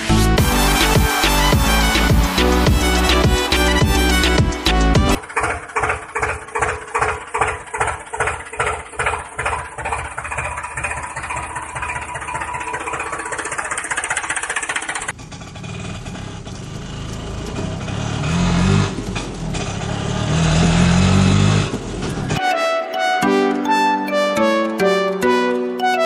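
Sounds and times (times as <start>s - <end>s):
deeper engine sound: 0.0s - 22.4s
engine chugging: 0.1s - 22.4s.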